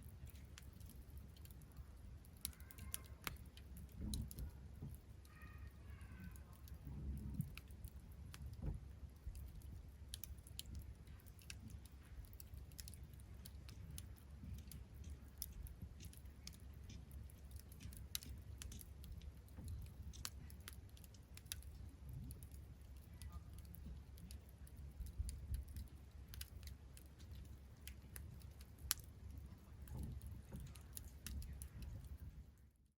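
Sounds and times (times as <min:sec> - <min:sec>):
campfire crackling: 0:00.0 - 0:32.9
faint low rumble: 0:00.0 - 0:32.9
sharp snaps and pops: 0:00.0 - 0:32.9.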